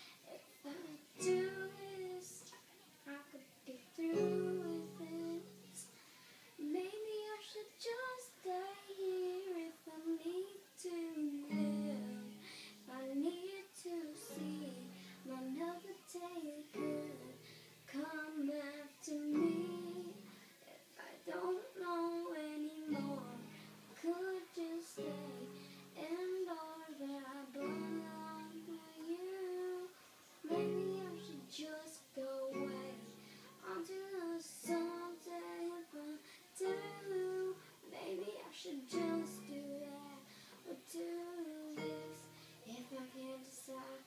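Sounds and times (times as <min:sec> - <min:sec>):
girl singing: 0:00.0 - 0:44.0.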